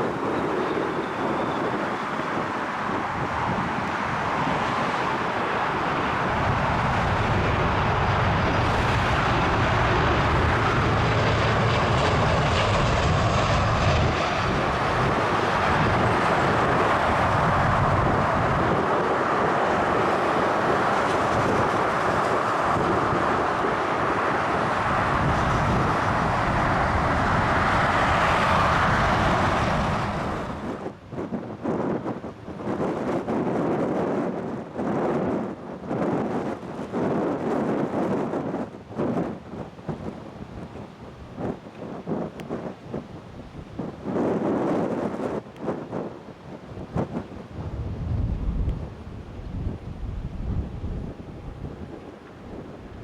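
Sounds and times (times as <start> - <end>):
jet engine rush and rumble: 0.0 - 53.0.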